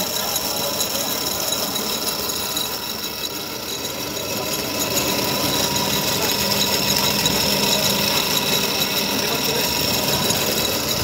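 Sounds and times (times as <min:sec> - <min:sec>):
grain pouring from pipes: 0:00.0 - 0:11.0
machine mechanical rattle: 0:00.0 - 0:11.0.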